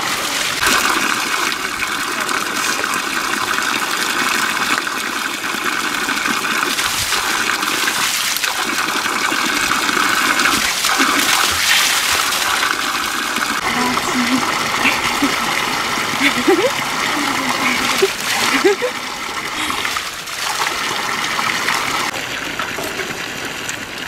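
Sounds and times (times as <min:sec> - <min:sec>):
water pouring onto rocks: 0:00.0 - 0:24.0.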